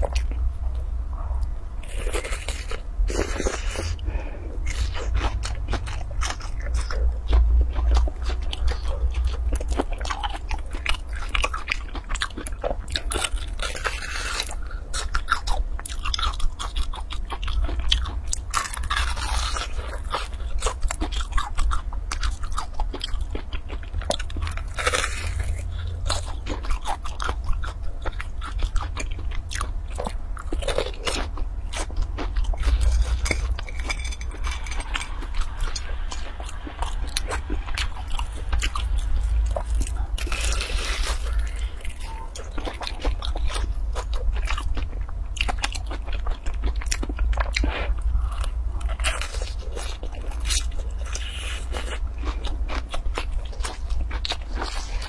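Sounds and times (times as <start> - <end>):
chewing: 0.0 - 55.0
low hum: 0.0 - 55.0
crunching fried food: 1.8 - 55.0.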